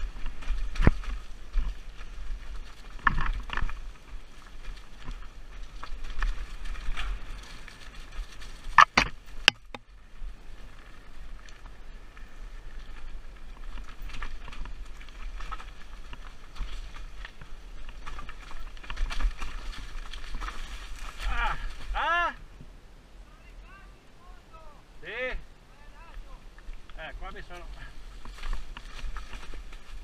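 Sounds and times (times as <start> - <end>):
bike rattling over bumps: 0.0 - 22.1, 26.5 - 30.0
tyres crunching over dirt and stones: 0.0 - 22.2, 26.0 - 30.0
low wind rumble: 0.0 - 30.0.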